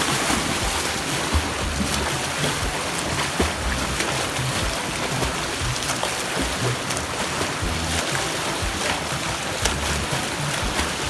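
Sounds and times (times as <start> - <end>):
low rumbling: 0.0 - 11.0
rushing open water: 0.0 - 11.0.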